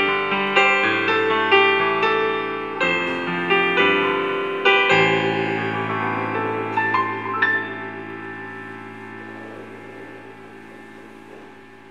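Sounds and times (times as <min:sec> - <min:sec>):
piano chords: 0:00.0 - 0:11.9.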